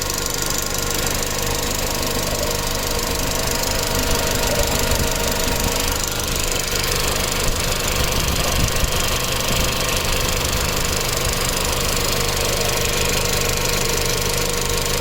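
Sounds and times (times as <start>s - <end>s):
car engine idling: 0.0s - 15.0s
fast constant engine ticking: 0.0s - 15.0s.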